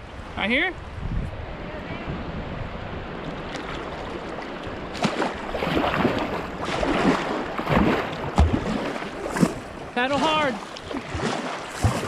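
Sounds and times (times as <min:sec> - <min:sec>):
river water rushing: 0:00.0 - 0:12.0
paddle splashes and gurgles: 0:02.1 - 0:12.0.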